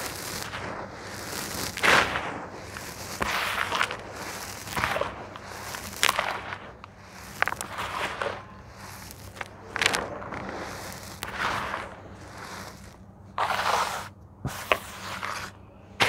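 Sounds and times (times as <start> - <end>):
clay dust pouring into plastic basin: 0.0 - 15.6
crumbs clicking: 0.0 - 15.6.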